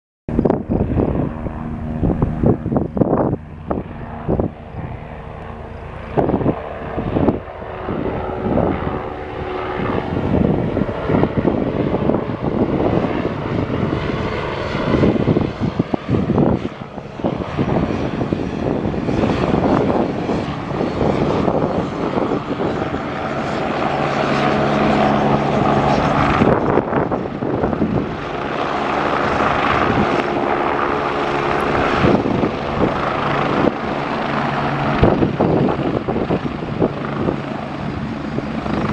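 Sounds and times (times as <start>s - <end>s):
helicopter rotor beating: 0.3s - 38.9s
turbine whine: 0.3s - 38.9s.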